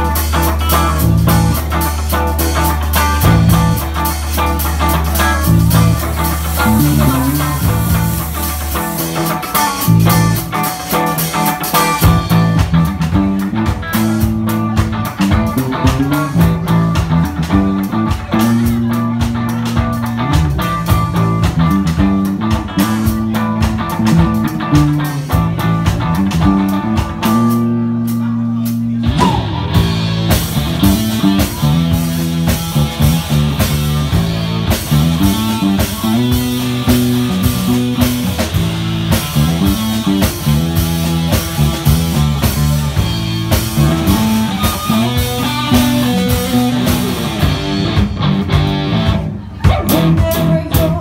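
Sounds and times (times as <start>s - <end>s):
bass guitar: 0.0s - 51.0s
drum kit beat: 0.0s - 51.0s
electric guitars: 0.0s - 51.0s.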